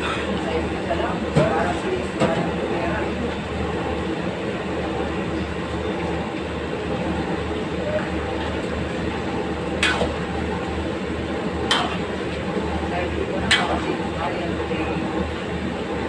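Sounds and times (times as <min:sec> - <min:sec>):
gas burner flame rushing: 0:00.0 - 0:16.0.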